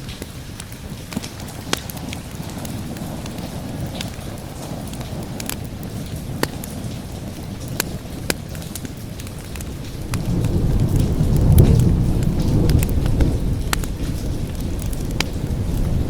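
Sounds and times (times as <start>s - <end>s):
steady rain: 0.0s - 16.0s
wood fire crackling: 0.0s - 16.0s
low roll of thunder: 0.9s - 16.0s.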